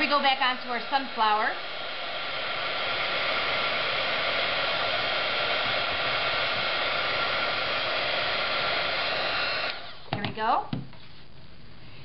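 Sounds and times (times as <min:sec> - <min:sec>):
heat gun blowing air: 0:00.0 - 0:10.2.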